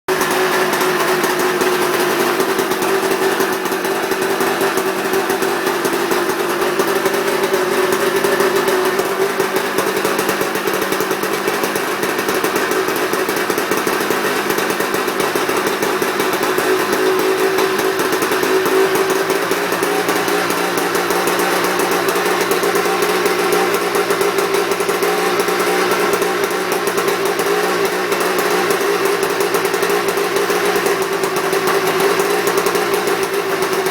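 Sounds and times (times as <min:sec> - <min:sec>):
engine running steadily: 0:00.1 - 0:33.9.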